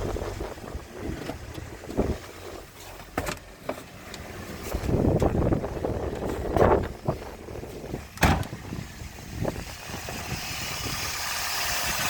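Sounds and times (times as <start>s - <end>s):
wind on microphone: 0.0s - 2.8s, 4.6s - 12.0s
car engine running: 0.0s - 12.0s.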